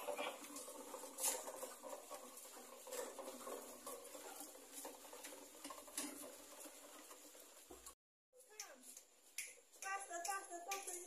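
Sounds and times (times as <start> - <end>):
plastic tricycle rattling on tiles: 0.0 - 11.0
sharp clicks from wheels: 0.0 - 11.0.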